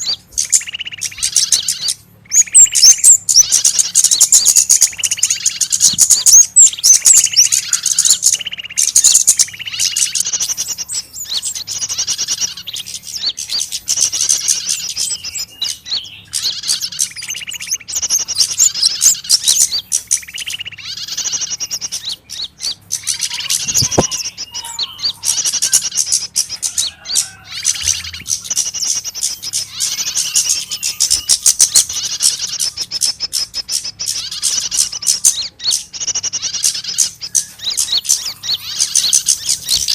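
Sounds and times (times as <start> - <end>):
small songbirds chirping frantically: 0.0 - 39.9.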